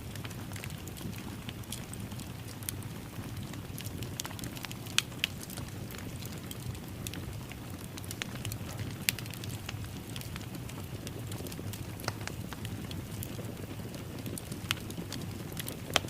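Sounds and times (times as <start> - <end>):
fire burning rumble: 0.0 - 16.0
wood fire popping and snapping: 0.0 - 16.0.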